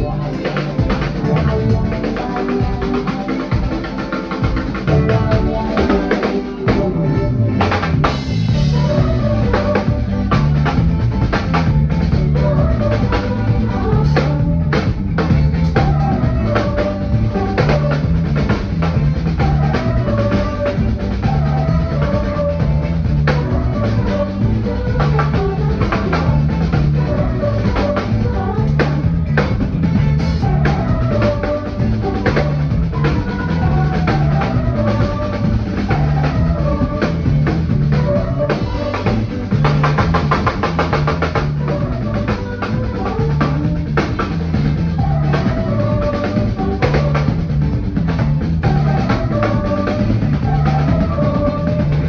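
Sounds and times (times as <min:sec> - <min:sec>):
drum kit solo: 0:00.0 - 0:52.0
drum roll: 0:00.0 - 0:52.0
keyboard and bass backing: 0:00.0 - 0:52.0.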